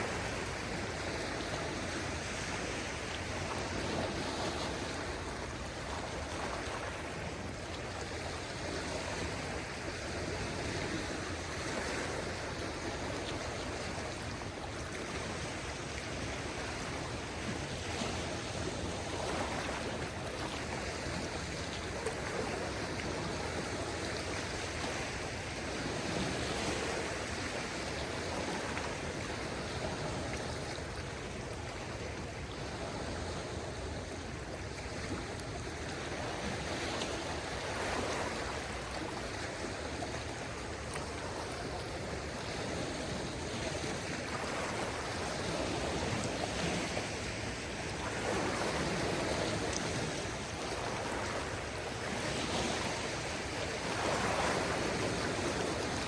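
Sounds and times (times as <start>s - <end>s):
small waves washing on shore: 0.0s - 56.0s.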